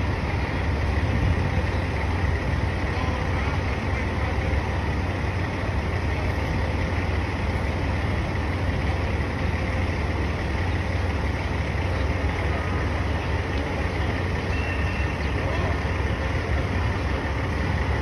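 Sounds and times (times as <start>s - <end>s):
diesel engine droning: 0.0s - 18.0s
street noise: 0.0s - 18.0s.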